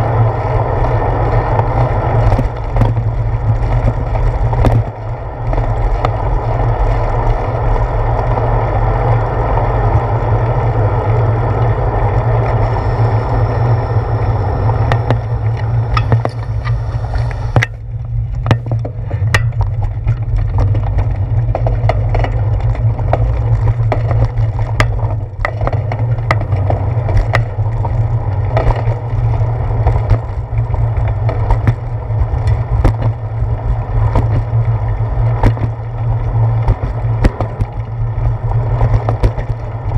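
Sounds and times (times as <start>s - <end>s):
bike rattling over bumps: 0.0s - 39.9s
rolling road noise: 0.0s - 39.9s
wind rumble: 0.0s - 39.9s.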